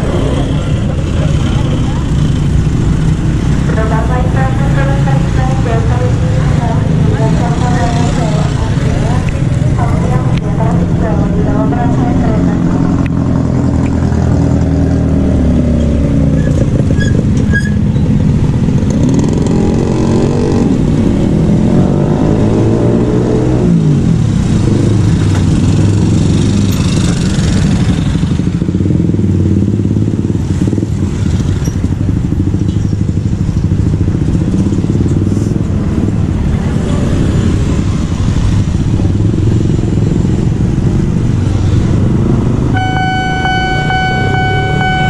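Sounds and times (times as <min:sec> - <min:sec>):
motorcycle engines driving past: 0:00.0 - 0:45.0.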